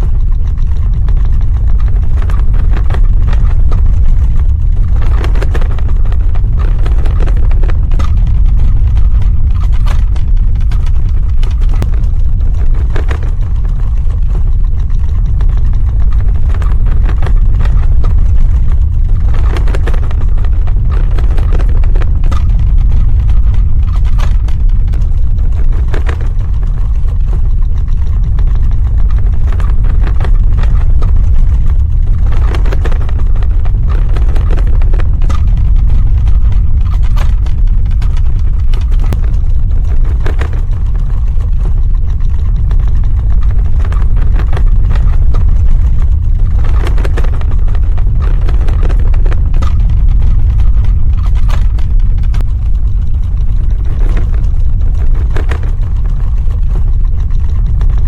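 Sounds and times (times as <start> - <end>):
deep ground rumble: 0.0 - 58.0
light rattling and crackling: 0.0 - 58.0.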